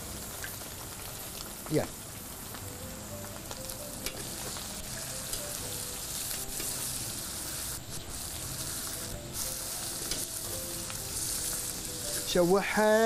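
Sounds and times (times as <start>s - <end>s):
liver sizzling in hot oil: 0.0s - 13.0s.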